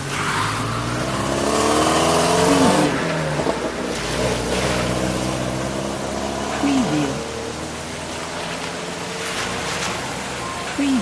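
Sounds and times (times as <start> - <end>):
car engines accelerating past: 0.0 - 11.0
tyre and traffic rush: 0.0 - 11.0.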